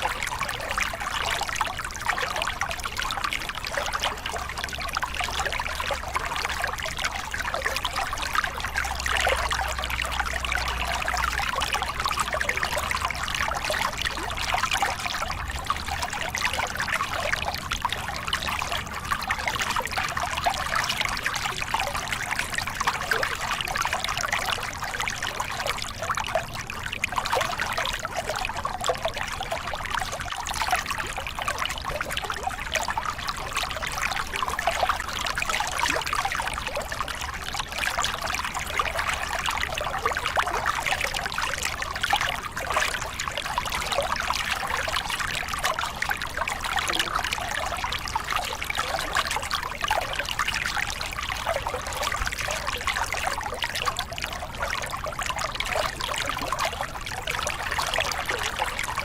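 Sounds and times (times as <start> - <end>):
water splashing over rocks: 0.0 - 59.0.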